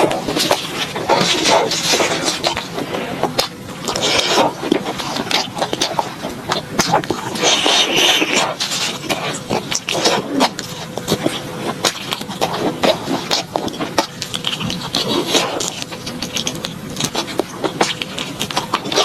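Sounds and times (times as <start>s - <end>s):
crunchy chewing: 0.0s - 19.0s
wet mouth clicks: 1.2s - 19.0s.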